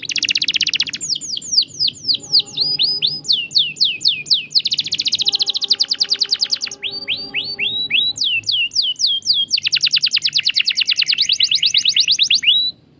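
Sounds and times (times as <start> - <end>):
canary singing: 0.0 - 12.8.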